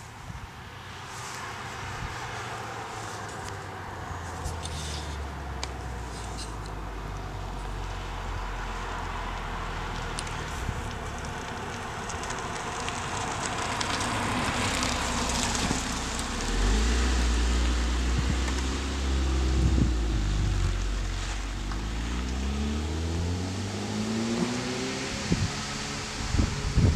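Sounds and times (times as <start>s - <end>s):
car engine and exhaust drone: 0.0s - 26.9s
tyres hissing on road: 0.0s - 26.9s.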